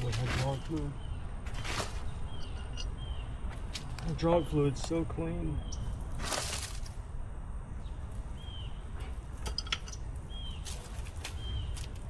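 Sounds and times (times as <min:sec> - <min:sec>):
bird chirping: 0:00.0 - 0:06.8, 0:07.6 - 0:12.0
rustle: 0:00.0 - 0:07.2, 0:07.8 - 0:12.0.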